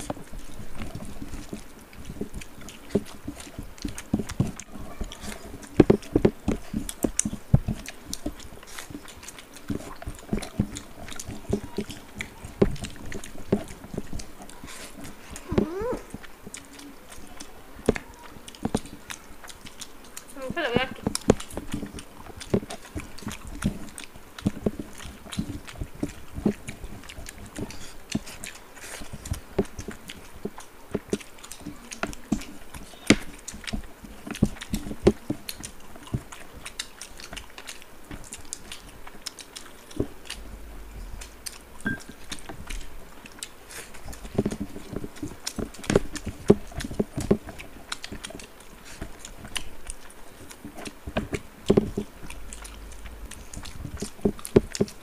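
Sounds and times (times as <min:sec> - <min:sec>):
chewing and lip-smacking: 0:00.0 - 0:55.0
fingers mixing rice on plates: 0:00.0 - 0:55.0.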